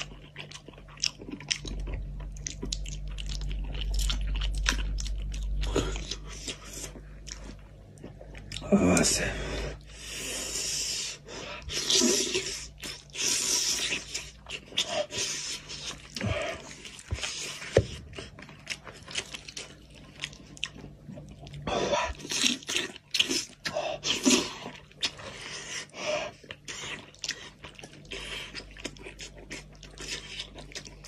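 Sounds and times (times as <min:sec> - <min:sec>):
man eating wetly: 0:00.0 - 0:31.0.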